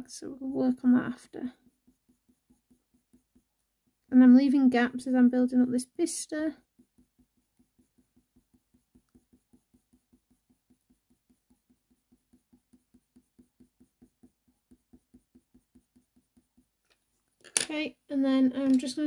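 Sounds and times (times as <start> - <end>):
colour pencil scratching on paper: 0.0 - 17.3.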